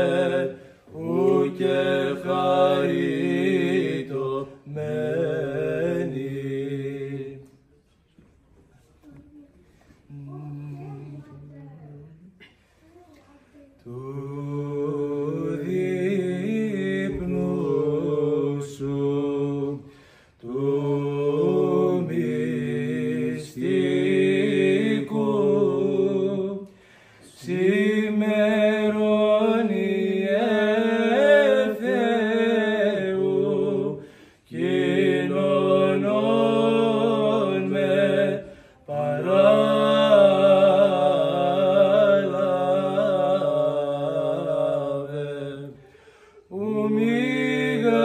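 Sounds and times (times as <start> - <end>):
men chanting a hymn: 0.0 - 7.5, 13.9 - 48.0.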